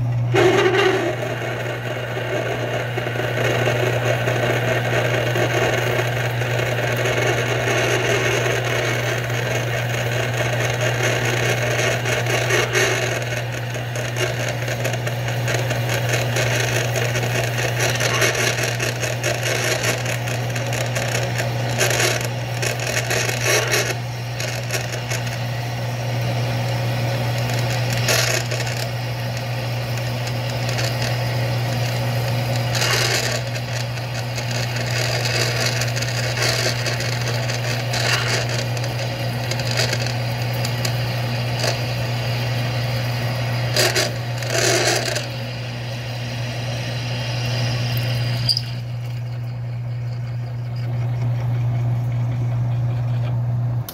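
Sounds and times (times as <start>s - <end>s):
drill cutting metal: 0.0s - 51.4s
lathe motor hum: 0.0s - 53.9s.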